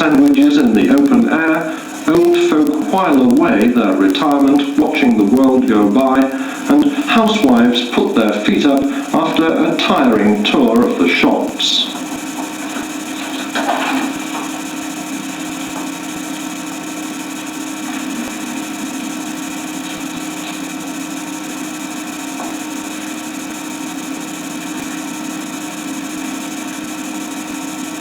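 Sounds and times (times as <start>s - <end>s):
mechanical hum with hiss: 0.0s - 28.0s.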